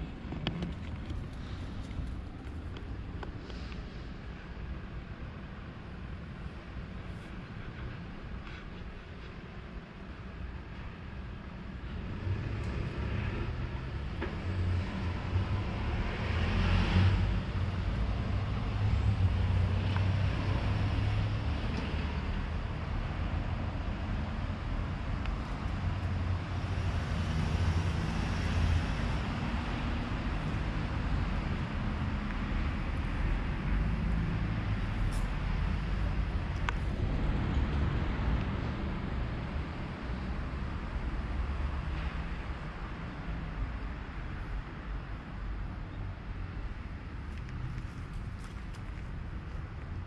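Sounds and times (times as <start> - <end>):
low rumble of road traffic: 0.0 - 50.0.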